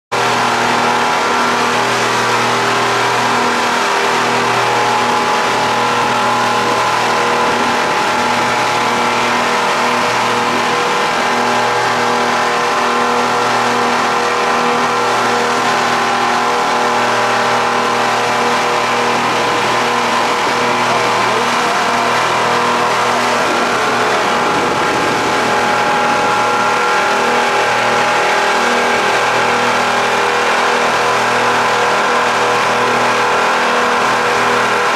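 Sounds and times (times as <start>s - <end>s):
speedboat engines droning: 0.1s - 34.9s
wind: 0.1s - 34.9s
rushing water: 0.2s - 34.9s.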